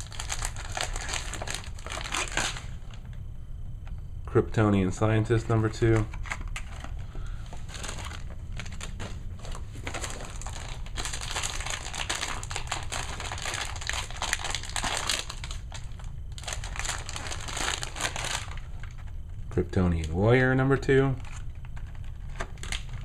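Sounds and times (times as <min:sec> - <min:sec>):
plastic packaging crinkling: 0:00.0 - 0:03.2, 0:05.8 - 0:19.3, 0:21.2 - 0:23.0.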